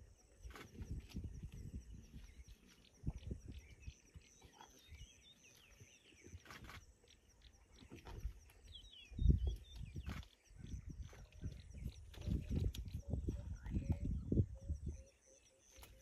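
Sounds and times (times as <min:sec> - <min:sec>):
small birds twittering: 0:00.0 - 0:16.0.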